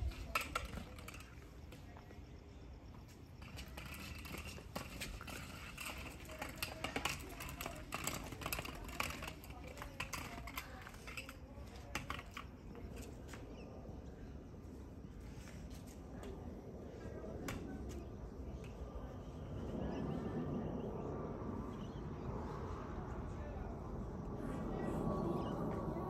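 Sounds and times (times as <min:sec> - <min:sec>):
faint low rumble: 0:00.0 - 0:26.0.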